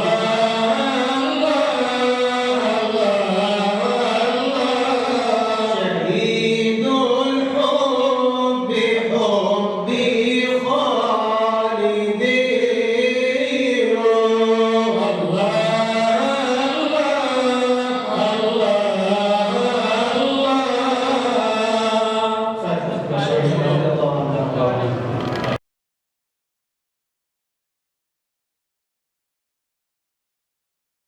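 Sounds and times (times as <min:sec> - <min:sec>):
unaccompanied melodic chanting: 0:00.0 - 0:25.6.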